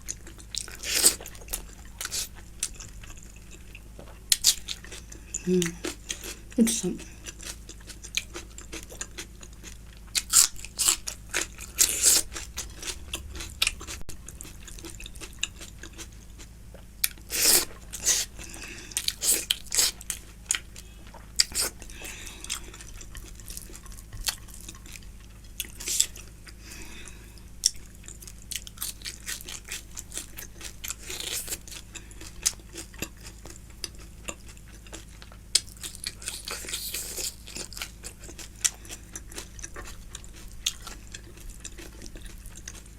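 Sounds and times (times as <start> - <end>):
person chewing and crunching food: 0.0 - 42.9.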